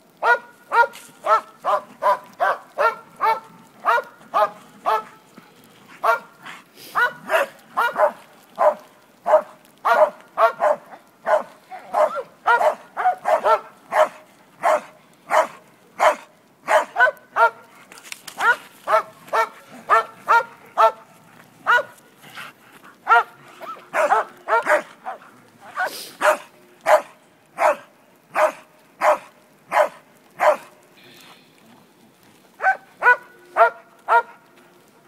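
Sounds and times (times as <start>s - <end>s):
dog barking: 0.2s - 5.2s, 6.0s - 17.7s, 18.4s - 22.0s, 23.0s - 30.8s, 32.6s - 34.4s.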